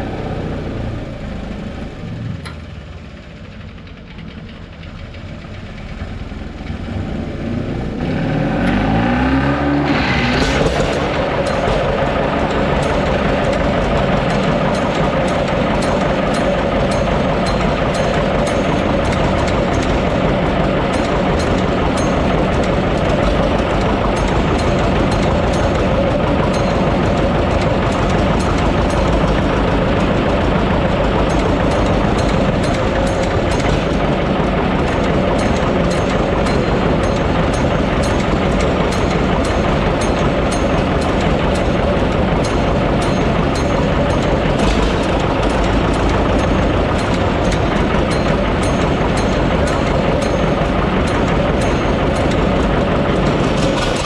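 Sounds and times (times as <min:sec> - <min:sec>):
diesel tractor engine clattering: 0:00.0 - 0:54.0.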